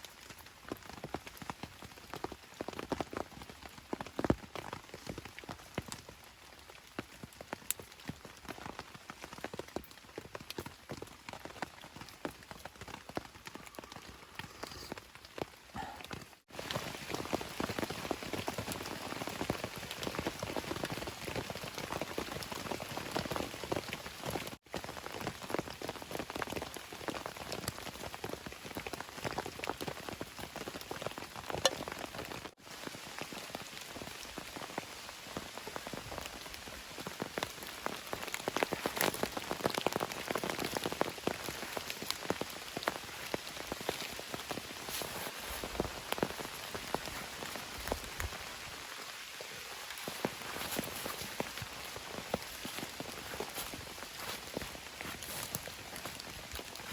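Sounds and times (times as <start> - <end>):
rain drops pattering: 0.0 - 56.9.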